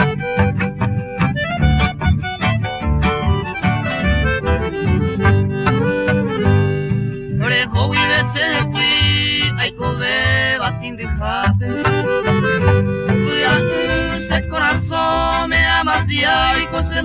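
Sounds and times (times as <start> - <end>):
bouncing bass: 0.0 - 17.0
polka melody with vibrato: 0.0 - 17.0.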